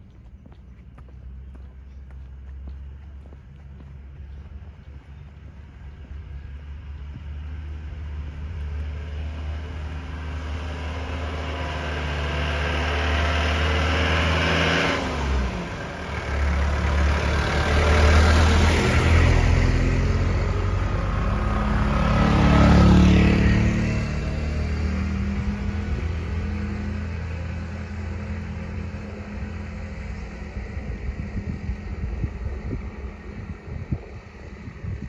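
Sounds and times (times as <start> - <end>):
motor vehicle engine: 0.0 - 35.0.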